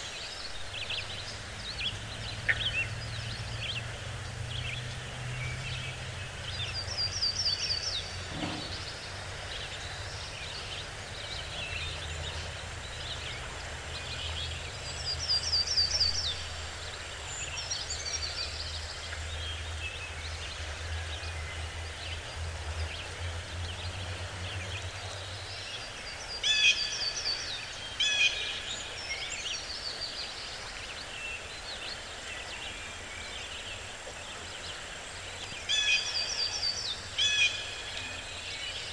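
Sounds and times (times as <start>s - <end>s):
wild birds singing: 0.0s - 38.9s.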